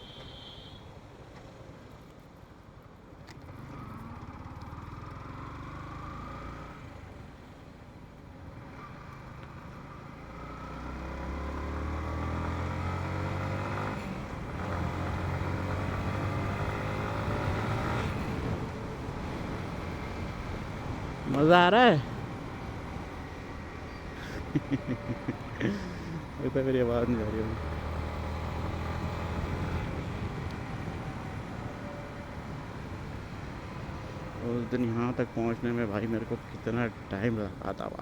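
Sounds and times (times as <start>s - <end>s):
wind and road noise: 0.0s - 38.0s
motorcycle engine accelerating: 3.3s - 7.2s, 8.6s - 37.5s.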